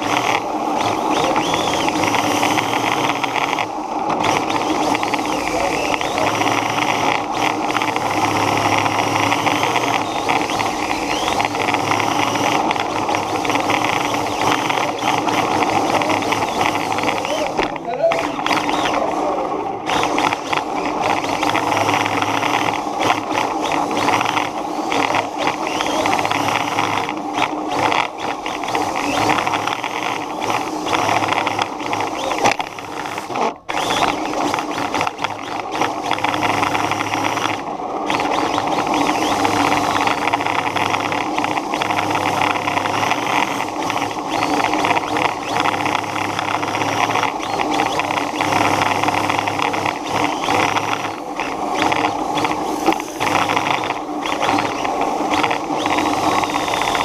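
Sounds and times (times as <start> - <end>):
radio-controlled car running: 0.0 - 57.0.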